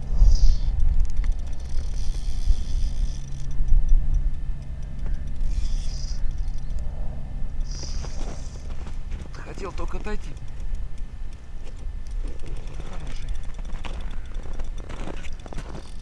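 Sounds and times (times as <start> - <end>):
fishing reel ticking and whirring: 0.0 - 16.0.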